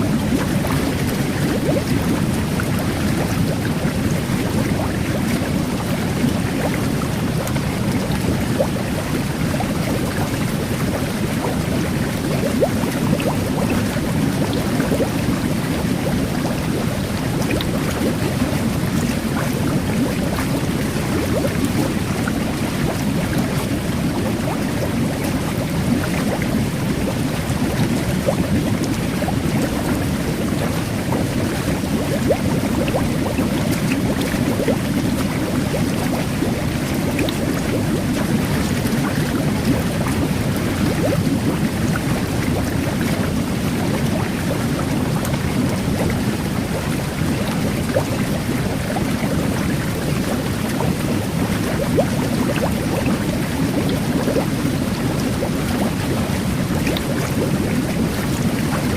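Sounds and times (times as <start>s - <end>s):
carbonated bubbles fizzing: 0.0s - 58.9s
jet bath water churning: 0.0s - 58.9s.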